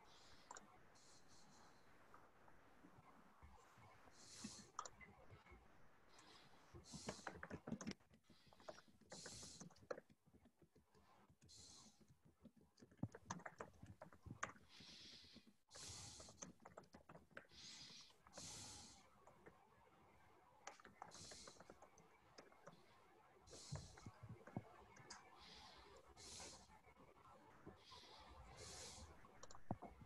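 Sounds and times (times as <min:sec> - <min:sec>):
mouse and keyboard clicking: 0:00.1 - 0:01.7, 0:04.2 - 0:05.4, 0:06.2 - 0:19.6, 0:20.6 - 0:26.8, 0:27.7 - 0:30.0.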